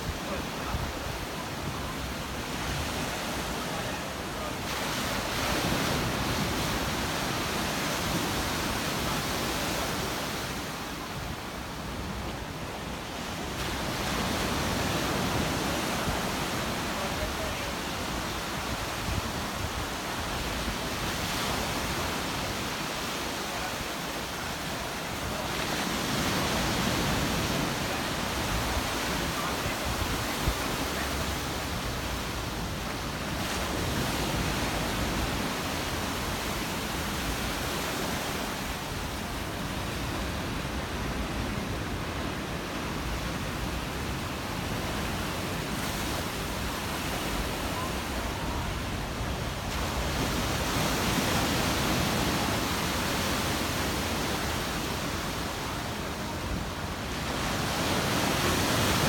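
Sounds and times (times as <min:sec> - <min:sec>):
stormy sea waves breaking: 0:00.0 - 0:59.0.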